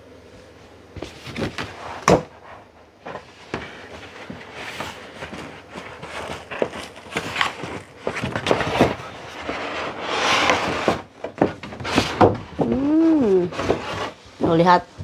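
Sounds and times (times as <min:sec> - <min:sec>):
paperboard rustling and scraping: 0:01.0 - 0:14.8.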